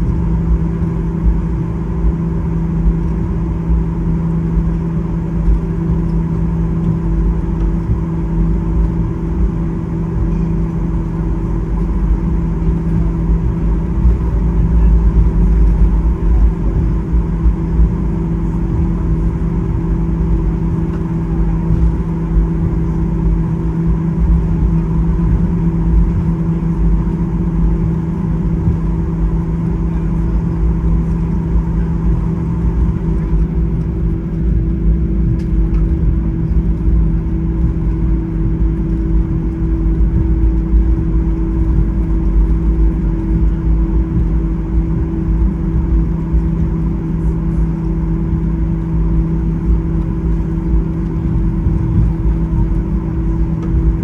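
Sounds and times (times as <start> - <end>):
vehicle interior rumble and hum: 0.0 - 54.0.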